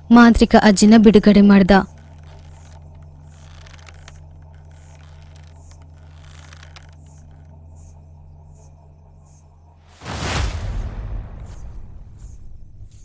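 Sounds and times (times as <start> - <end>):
low background drone: 0.0 - 13.0.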